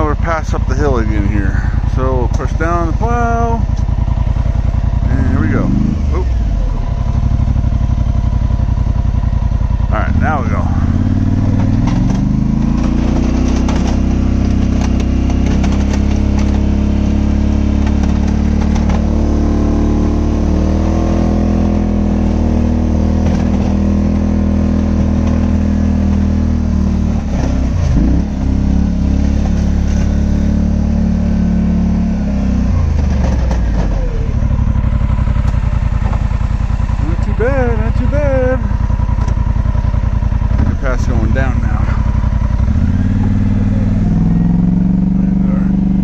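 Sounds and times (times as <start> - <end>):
atv engine idling: 0.0 - 46.0
atv engine revving under load: 0.0 - 46.0.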